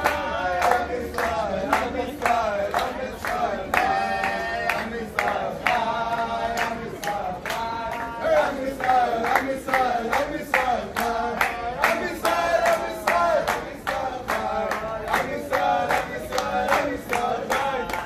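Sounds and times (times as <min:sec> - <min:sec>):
clapping in time: 0:00.0 - 0:18.0
group of males singing: 0:00.0 - 0:18.0.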